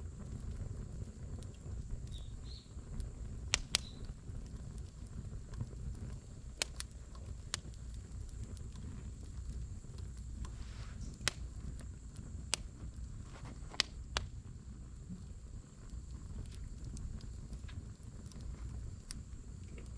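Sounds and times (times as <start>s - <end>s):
fire crackles and pops: 0.0s - 19.9s
low rumble of flames: 0.0s - 19.9s.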